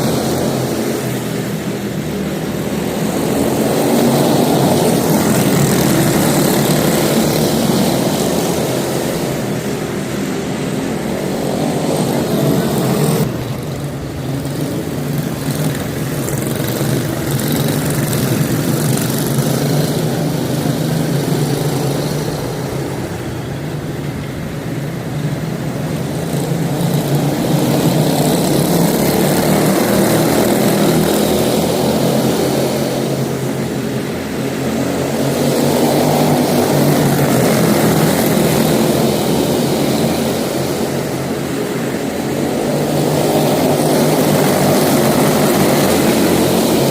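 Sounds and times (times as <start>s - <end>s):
small race car engines: 0.0s - 46.9s.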